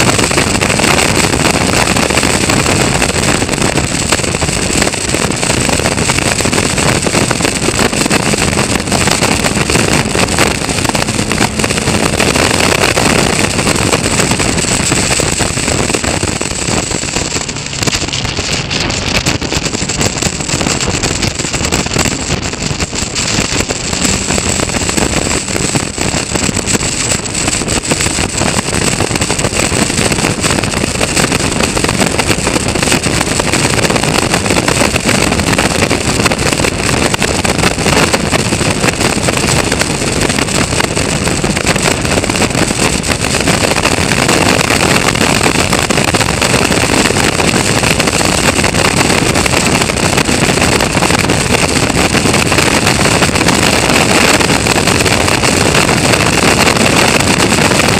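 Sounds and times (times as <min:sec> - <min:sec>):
race car engine at speed: 0:00.0 - 0:57.9
wind rushing over microphone: 0:00.0 - 0:57.9.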